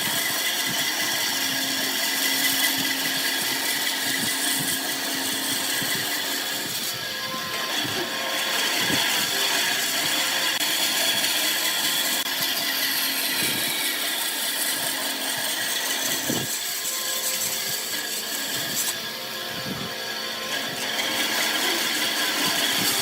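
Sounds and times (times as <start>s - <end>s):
wood lathe scraping hiss: 0.0s - 23.0s.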